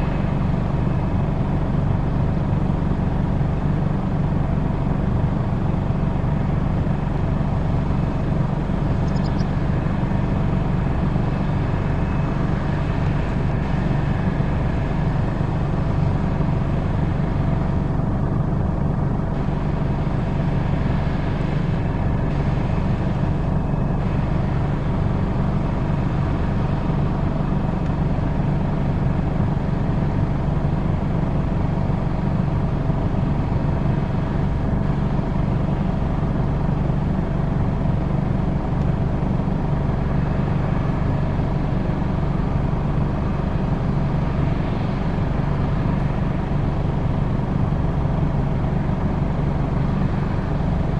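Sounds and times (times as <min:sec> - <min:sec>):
combine harvester engine drone: 0:00.0 - 0:50.9.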